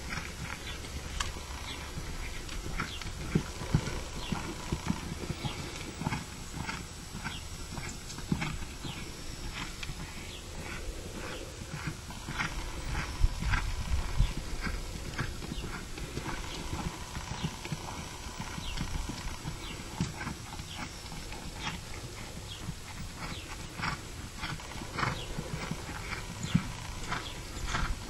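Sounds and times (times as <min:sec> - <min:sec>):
hoofbeats on soft dirt: 0:00.0 - 0:28.0.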